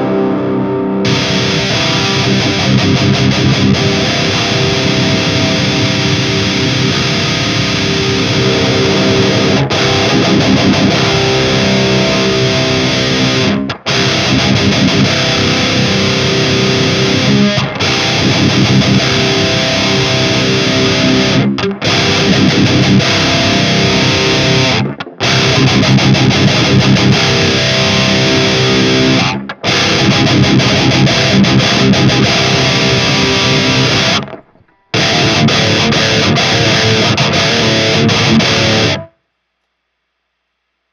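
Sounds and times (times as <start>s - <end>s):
distorted electric guitar riffing: 0.0s - 39.2s.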